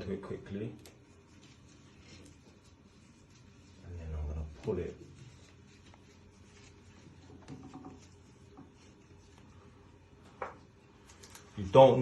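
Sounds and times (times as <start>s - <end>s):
rustling of handled cable: 0.6s - 12.0s.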